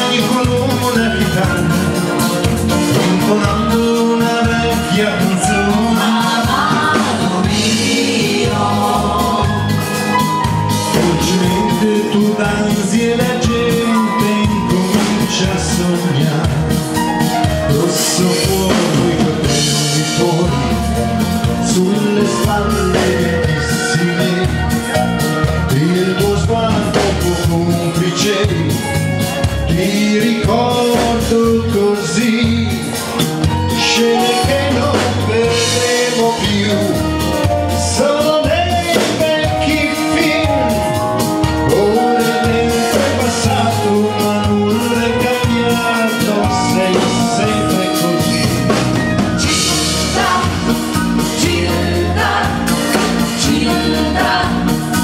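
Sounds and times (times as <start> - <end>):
electric bass guitar: 0.0 - 55.0
keyboards: 0.0 - 55.0
person singing: 0.0 - 55.0
steady drum beat: 0.0 - 55.0.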